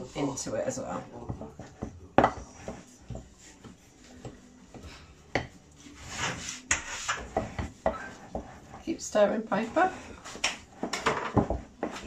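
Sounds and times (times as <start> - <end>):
spoon stirring thick batter: 0.0 - 12.0.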